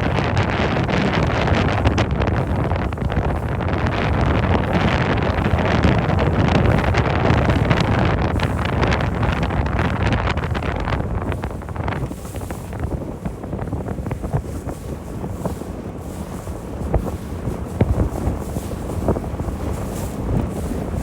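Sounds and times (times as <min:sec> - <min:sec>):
motorboat engine: 0:00.0 - 0:21.0
wind buffeting microphone: 0:00.0 - 0:21.0.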